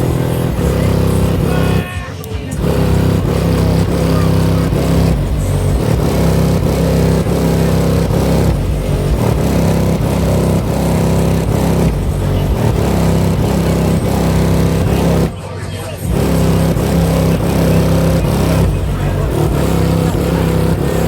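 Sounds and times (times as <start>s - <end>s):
bass-heavy music from car subwoofers: 0.0s - 21.0s.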